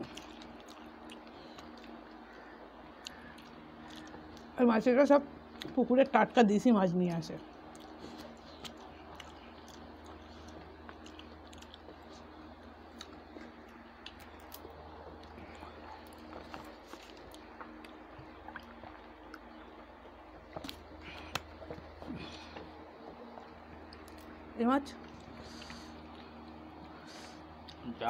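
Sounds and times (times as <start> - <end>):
chewing and mouth smacks: 0.0 - 4.6, 7.5 - 24.4, 25.0 - 27.0, 27.6 - 27.8
steady low hum: 0.0 - 28.0.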